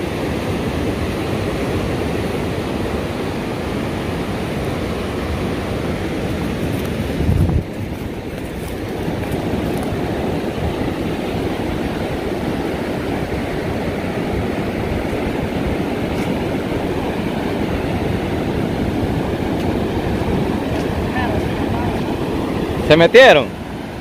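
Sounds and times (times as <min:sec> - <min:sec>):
ocean surf breaking: 0:00.0 - 0:24.0
wind buffeting microphone: 0:01.0 - 0:24.0.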